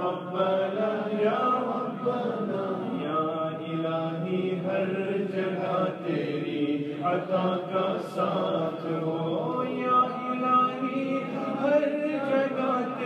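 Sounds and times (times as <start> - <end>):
male voices chanting: 0.0 - 13.0.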